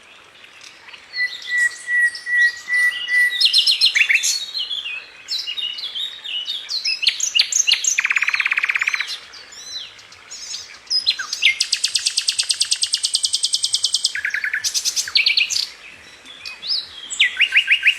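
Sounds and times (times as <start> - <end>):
songbirds singing and chirping: 0.0 - 17.9.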